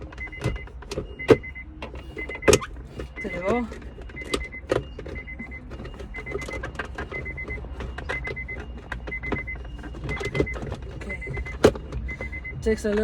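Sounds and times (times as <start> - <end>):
electronic beep: 0.1 - 13.0.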